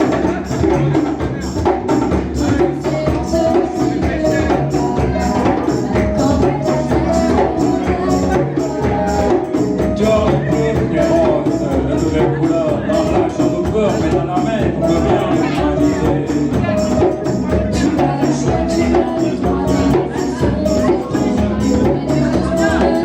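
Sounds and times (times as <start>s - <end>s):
fast percussion beat: 0.0s - 23.0s
live band music: 0.0s - 23.0s.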